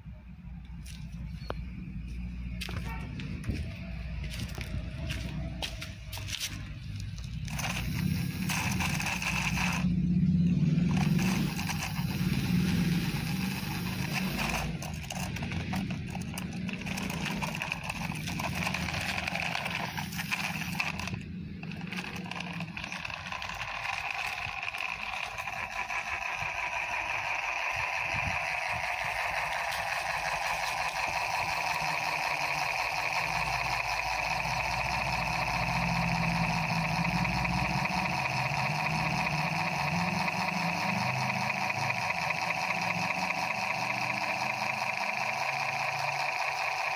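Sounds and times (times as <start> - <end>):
toy motor whirring: 3.9 - 46.9.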